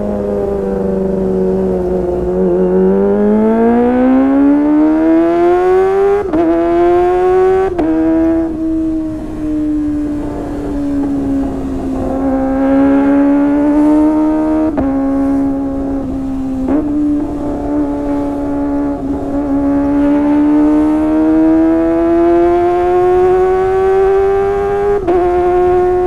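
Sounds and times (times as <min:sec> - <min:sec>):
motorcycle engine at high revs: 0:00.0 - 0:26.0.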